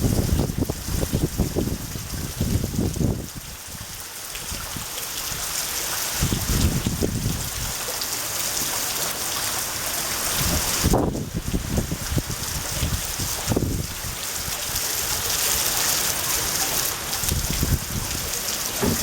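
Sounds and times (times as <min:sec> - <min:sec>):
wind gusts on microphone: 0:00.0 - 0:07.9, 0:10.2 - 0:16.5, 0:17.1 - 0:19.0
heavy rain hissing: 0:00.0 - 0:19.0.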